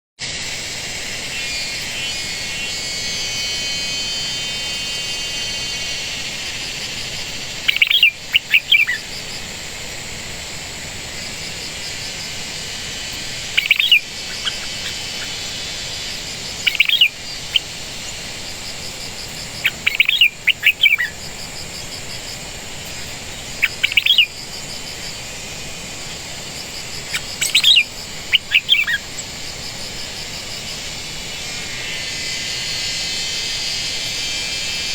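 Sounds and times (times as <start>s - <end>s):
bird chirping: 1.0s - 25.4s, 26.0s - 31.3s.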